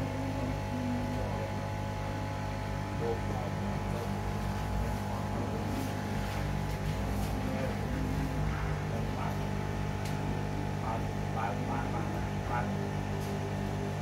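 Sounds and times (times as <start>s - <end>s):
electrical hum with even tones: 0.0s - 14.0s.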